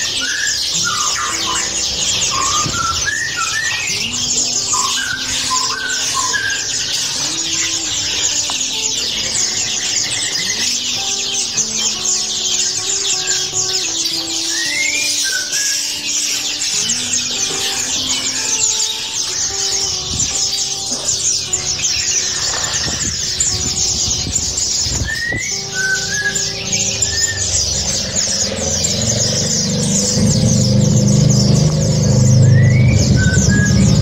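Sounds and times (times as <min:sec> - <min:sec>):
caged songbirds chirping: 0:00.0 - 0:34.0.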